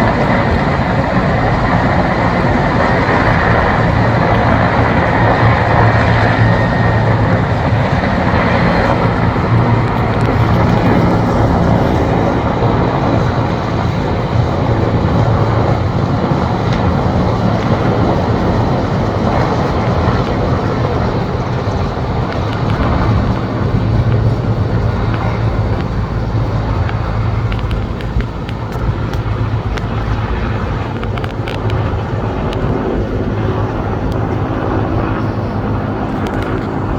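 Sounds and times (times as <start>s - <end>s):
helicopter engines and rotors droning: 0.0s - 36.9s.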